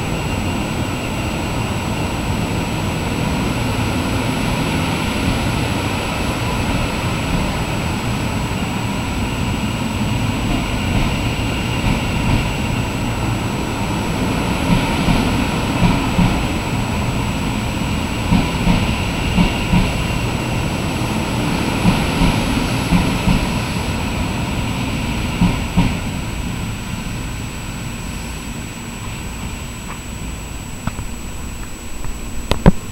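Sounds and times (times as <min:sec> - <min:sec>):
train rumbling with knocks: 0:00.0 - 0:32.9.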